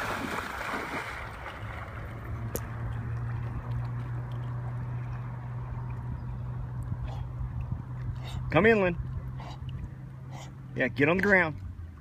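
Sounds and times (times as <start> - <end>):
faint water noise: 0.0 - 12.0
low motor hum: 0.0 - 12.0.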